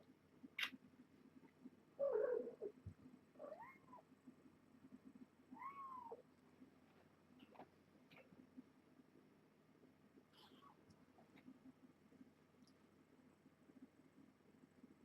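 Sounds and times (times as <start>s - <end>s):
handling kittens: 0.4s - 9.2s, 9.8s - 14.0s.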